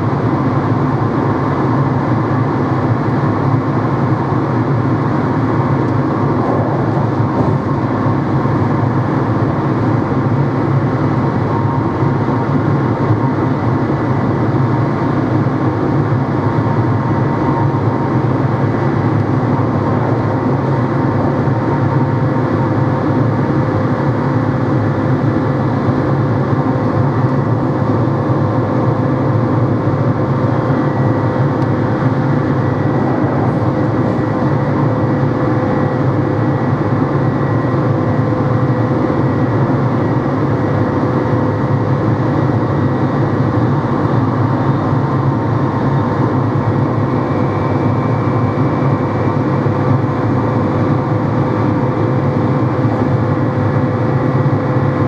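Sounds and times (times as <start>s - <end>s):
electric train rumble: 0.0s - 55.0s
train whine: 0.0s - 55.0s.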